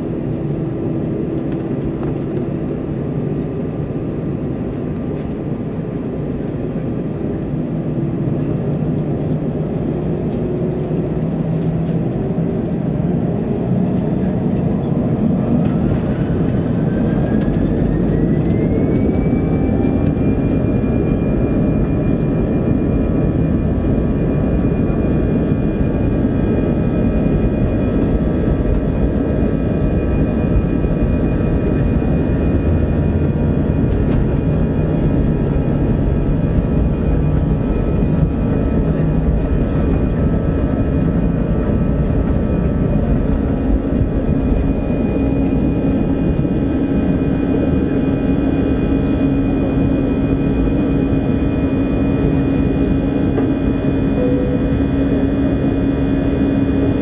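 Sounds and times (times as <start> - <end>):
engine whine rising in pitch: 0.0 - 57.0
jet engines heard from cabin: 0.0 - 57.0.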